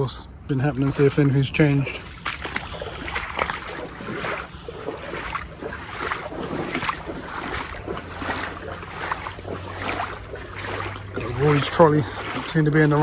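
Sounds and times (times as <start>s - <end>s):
wading through floodwater: 0.0s - 13.0s.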